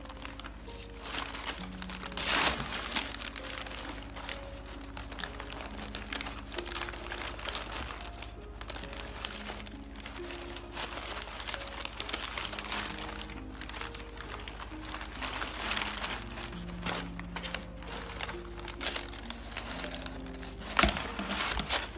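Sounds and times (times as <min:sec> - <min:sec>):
packing paper crinkling: 0:00.0 - 0:21.9.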